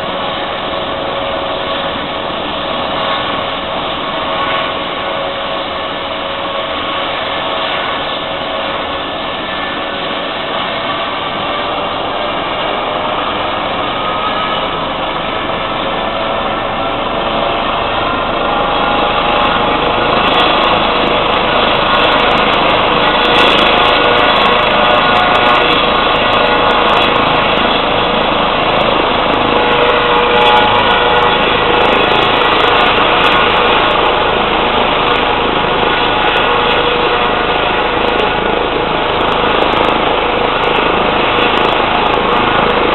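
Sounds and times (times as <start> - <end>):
helicopter rotor noise: 0.0 - 42.9
helicopter turbine whine: 0.0 - 42.9.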